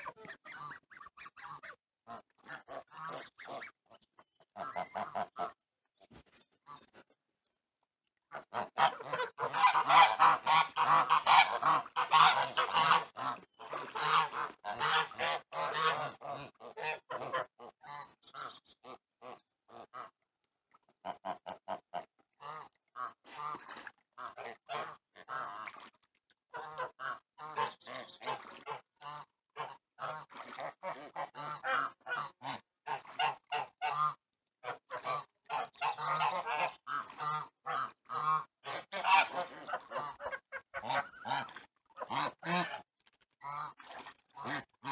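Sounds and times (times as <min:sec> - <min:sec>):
geese honking and cackling: 0:00.0 - 0:05.6, 0:08.3 - 0:20.1, 0:21.0 - 0:25.8, 0:26.5 - 0:42.8, 0:44.4 - 0:44.9.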